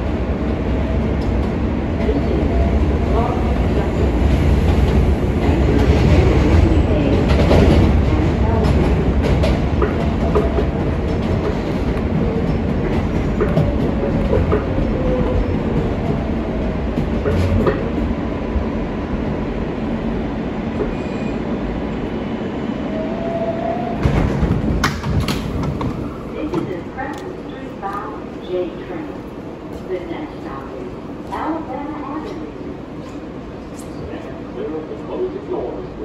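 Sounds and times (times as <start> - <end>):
subway train rumbling on rails: 0.0 - 36.0.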